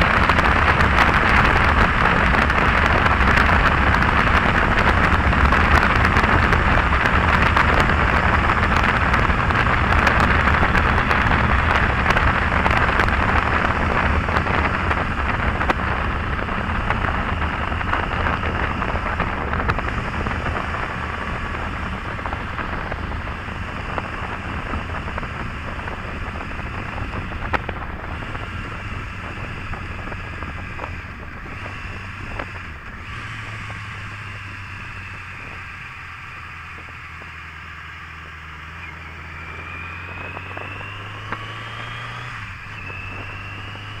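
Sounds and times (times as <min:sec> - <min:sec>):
motorcycle engine running: 0:00.0 - 0:44.0
wind on microphone: 0:00.0 - 0:44.0.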